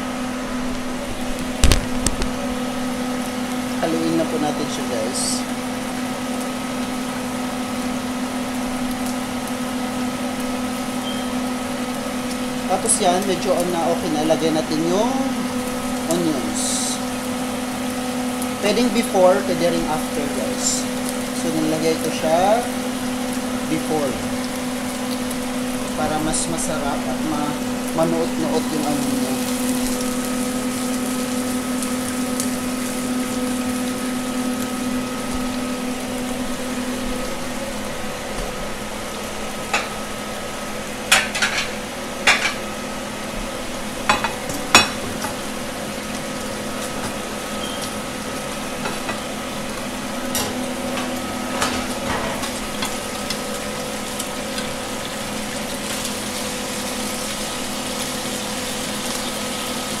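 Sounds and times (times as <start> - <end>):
garlic and onion sizzling in oil: 0.0 - 60.0.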